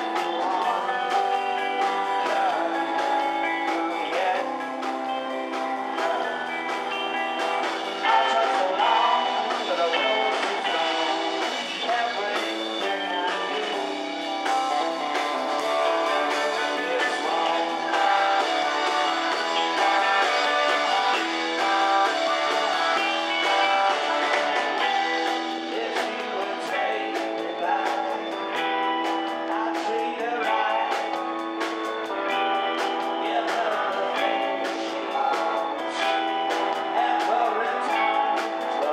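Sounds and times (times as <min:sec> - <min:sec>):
person singing: 0:00.0 - 0:38.9
rock band playing live: 0:00.0 - 0:38.9.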